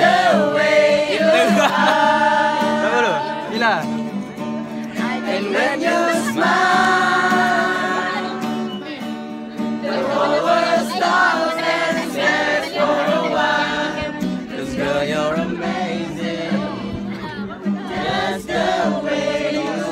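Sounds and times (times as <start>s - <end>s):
group of people singing: 0.0s - 19.9s.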